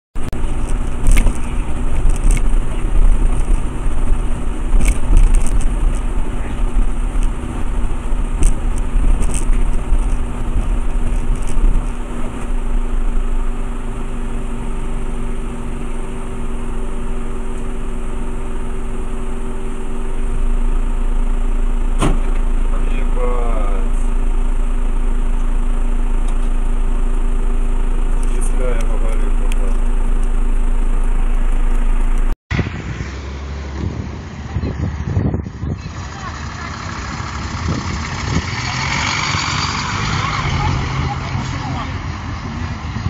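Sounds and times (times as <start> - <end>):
car engine hum: 0.2 - 43.0
road rumble: 0.2 - 43.0.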